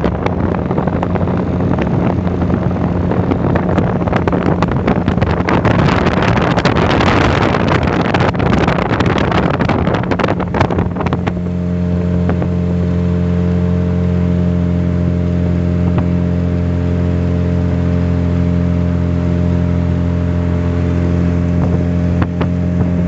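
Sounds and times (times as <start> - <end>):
rushing water: 0.0 - 23.0
speedboat engine drone: 0.0 - 23.0
wind buffeting microphone: 0.0 - 23.0.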